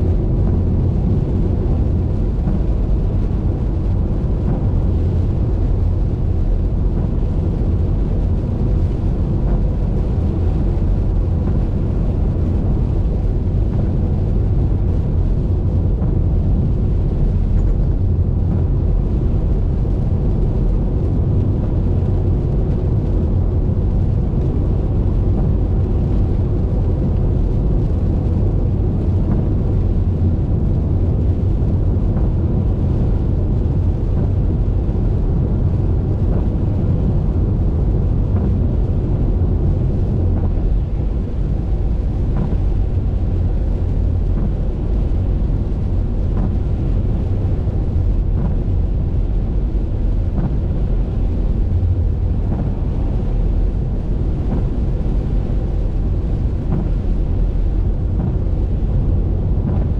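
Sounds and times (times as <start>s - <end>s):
car driving at highway speed: 0.0s - 59.9s.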